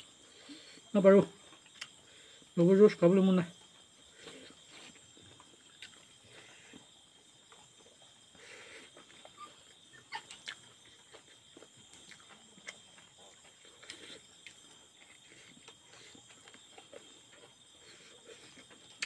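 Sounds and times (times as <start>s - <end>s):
man chewing and lip-smacking: 1.5s - 2.0s, 4.2s - 19.0s.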